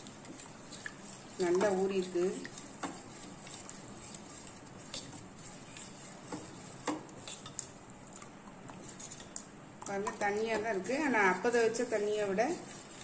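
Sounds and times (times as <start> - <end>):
ladle stirring batter in pot: 0.0 - 13.0.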